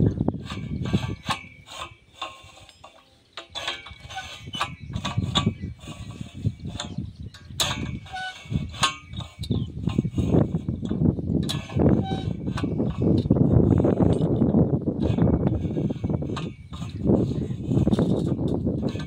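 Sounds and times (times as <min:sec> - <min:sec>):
lever hoist chain clanking: 0:00.0 - 0:19.0.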